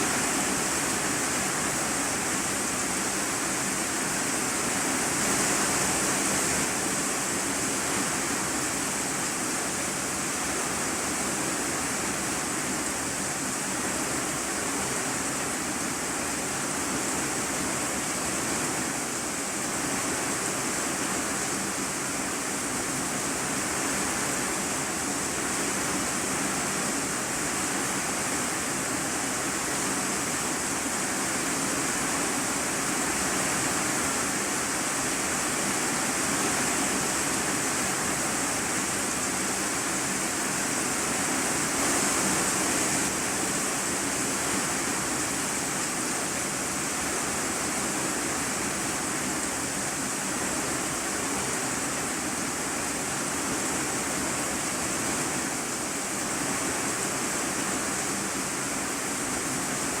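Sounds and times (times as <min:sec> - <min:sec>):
heavy rain on metal roof: 0:00.0 - 1:00.0.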